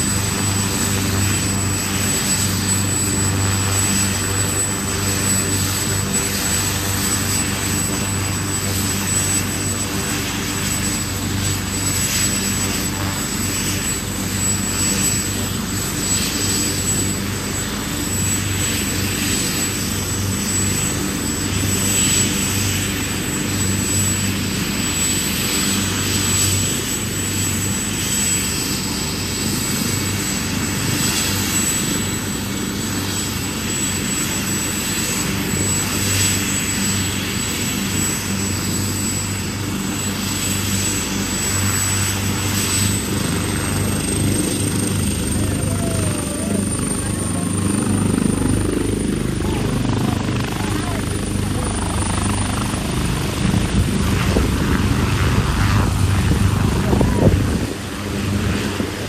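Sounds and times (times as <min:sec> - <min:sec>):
helicopter engine and rotors humming: 0:00.0 - 0:59.0.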